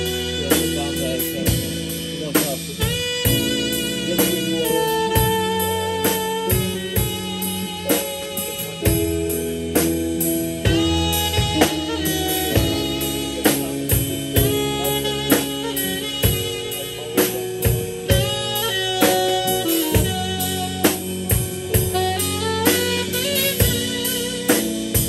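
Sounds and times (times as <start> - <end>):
drum kit: 0.0 - 25.0
electric bass: 0.0 - 25.0
saxophone melody: 0.0 - 25.0.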